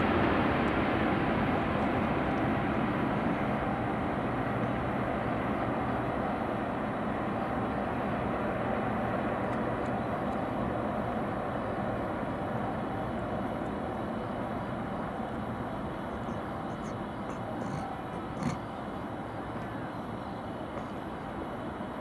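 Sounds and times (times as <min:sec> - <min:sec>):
distant vehicles and trains rumble: 0:00.0 - 0:22.0.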